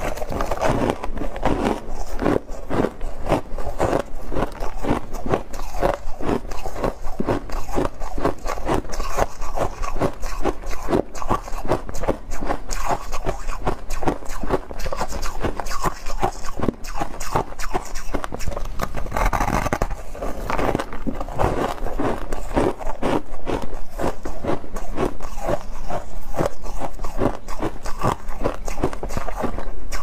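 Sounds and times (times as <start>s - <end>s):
ice being chewed: 0.0s - 30.0s.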